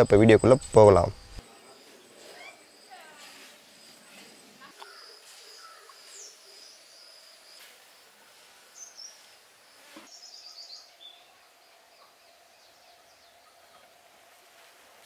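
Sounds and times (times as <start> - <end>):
small birds chirping: 0.0 - 7.7, 8.7 - 14.0.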